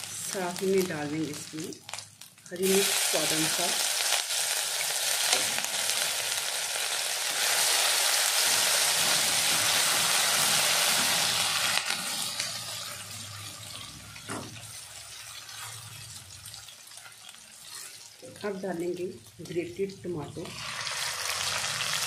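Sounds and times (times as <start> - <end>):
spices sizzling in hot oil: 0.0 - 22.0.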